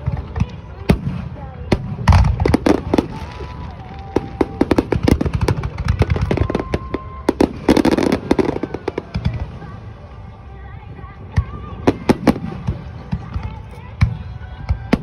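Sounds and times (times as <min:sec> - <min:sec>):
fireworks bangs and crackling bursts: 0:00.0 - 0:15.0.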